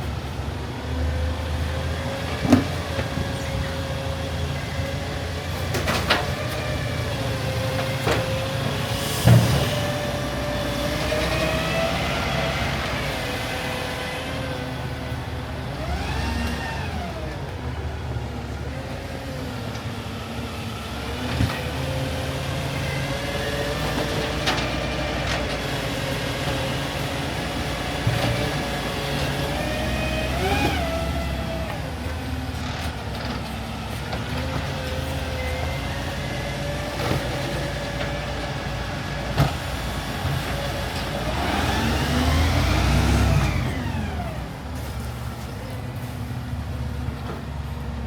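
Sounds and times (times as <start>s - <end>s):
garbage truck engine revving: 0.0s - 48.0s.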